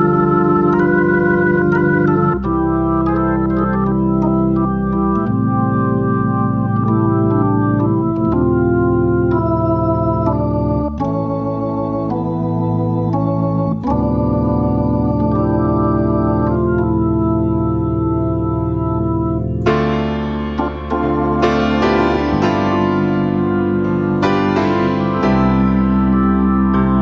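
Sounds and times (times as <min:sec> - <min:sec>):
sustained organ chords: 0:00.0 - 0:27.0.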